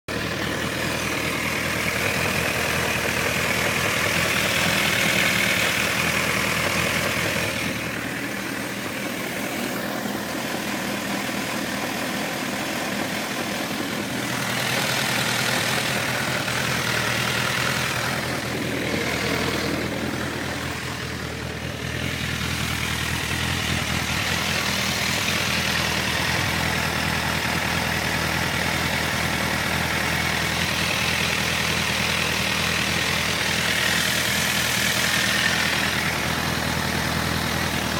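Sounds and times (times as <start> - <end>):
engine knocking: 0.0 - 37.9
motorcycle engine idling: 0.0 - 37.9.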